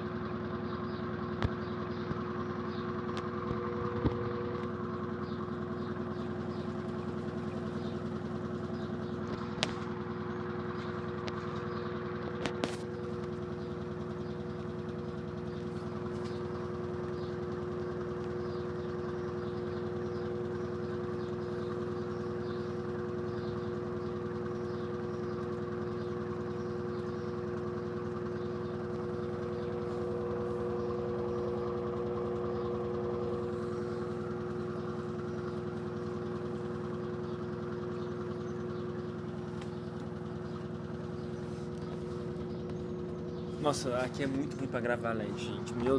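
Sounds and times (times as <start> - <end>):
washing machine motor hum: 3.3 - 45.9.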